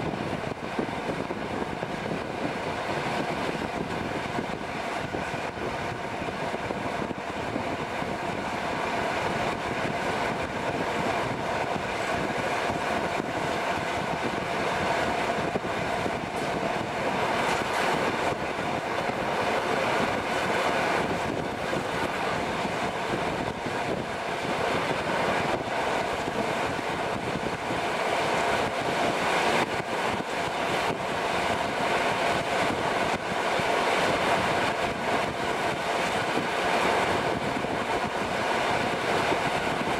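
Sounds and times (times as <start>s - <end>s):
steady whine: 0.0s - 39.9s
train wheels rumbling on rails: 0.0s - 39.9s
wind rushing: 0.0s - 39.9s.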